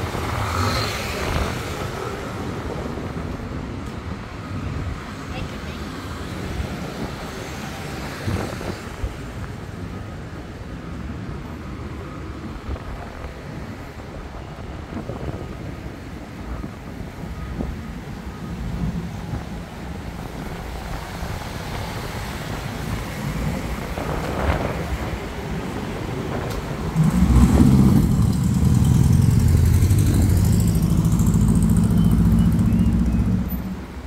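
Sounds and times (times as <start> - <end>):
wind rumbling on microphone: 0.0 - 5.2, 6.2 - 34.0
road traffic going by: 0.0 - 34.0.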